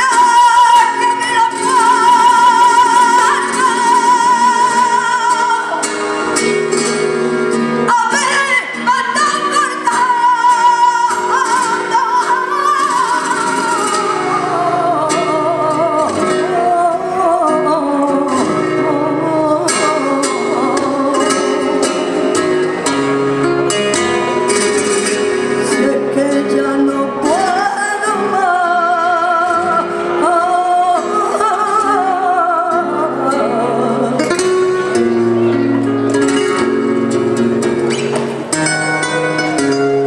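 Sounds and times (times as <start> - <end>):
flamenco guitar: 0.0 - 40.0.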